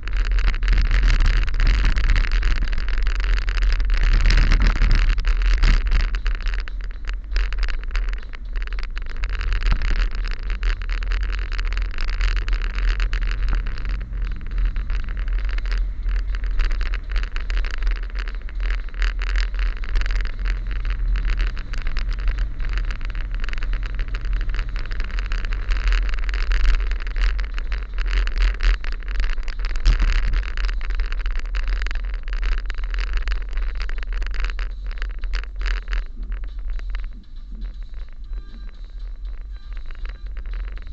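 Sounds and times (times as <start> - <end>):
vehicle engine running: 0.0 - 40.9
wind and road noise: 0.0 - 40.9.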